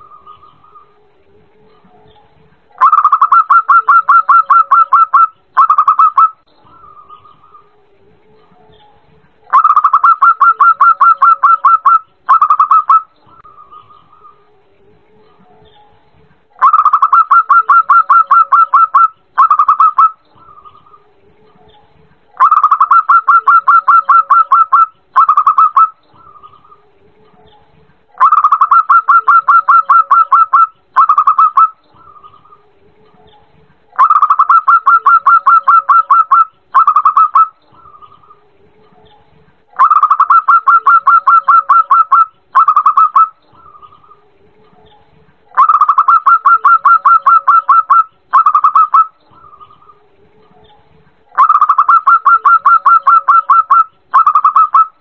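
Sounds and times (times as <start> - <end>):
dove cooing trill: 0.0 - 55.0.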